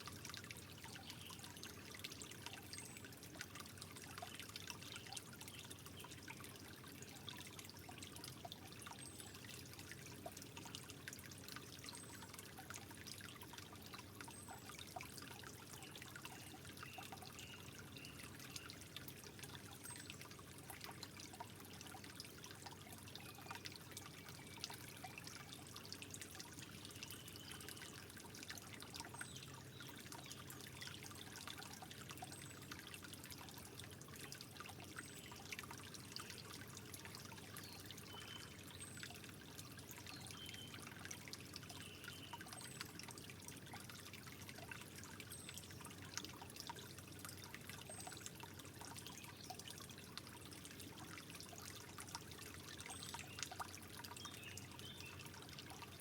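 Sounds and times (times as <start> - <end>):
water drips and splashes: 0.0 - 56.0
water trickling: 0.0 - 56.0.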